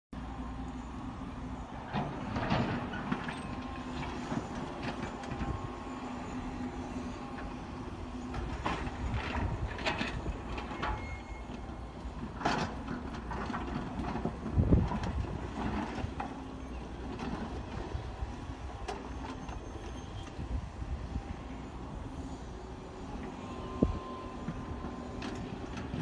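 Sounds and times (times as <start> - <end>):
excavator diesel engine running: 0.2 - 26.0.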